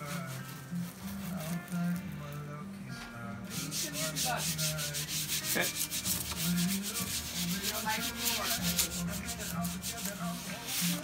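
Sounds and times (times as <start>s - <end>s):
hand rubbing tape on surface: 0.0s - 2.2s, 3.5s - 11.0s.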